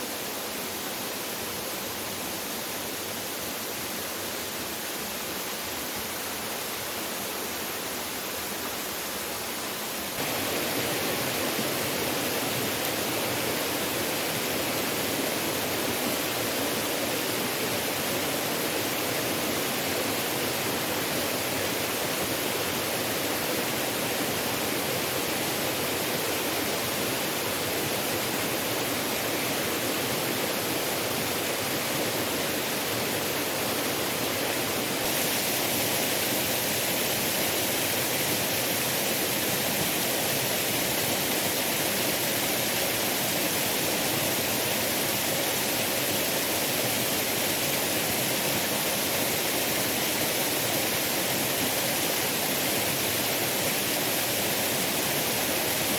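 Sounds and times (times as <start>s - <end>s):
waterfall rushing: 10.2s - 55.9s.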